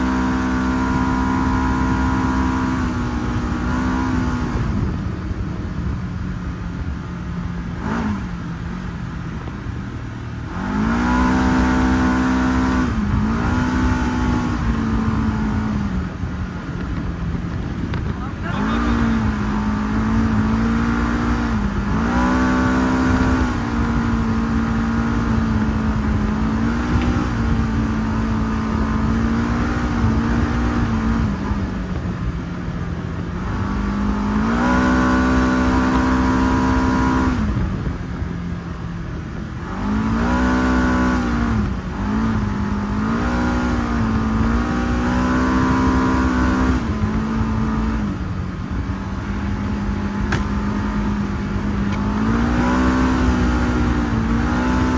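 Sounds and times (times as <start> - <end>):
utility vehicle engine revving: 0.0 - 54.9.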